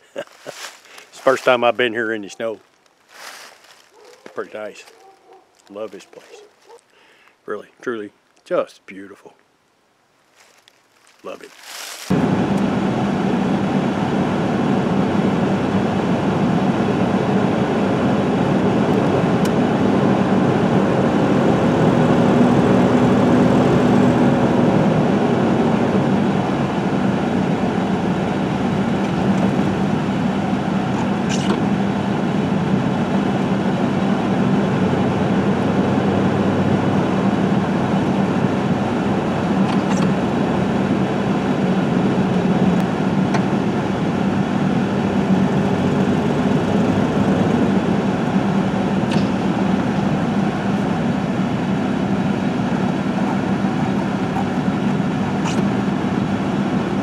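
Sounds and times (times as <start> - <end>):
vehicle engine and road noise: 0.0 - 6.9, 10.3 - 57.0.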